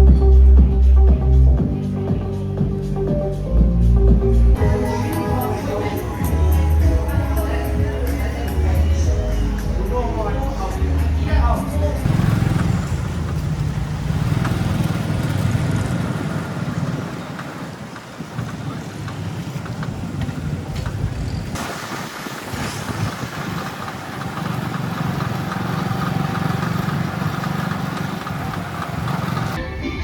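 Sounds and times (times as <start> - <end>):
vehicle engines running: 0.0 - 29.6.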